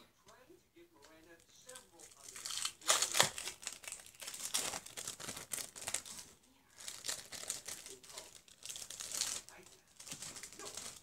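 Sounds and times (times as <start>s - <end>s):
plastic packaging crinkling: 1.4s - 11.0s.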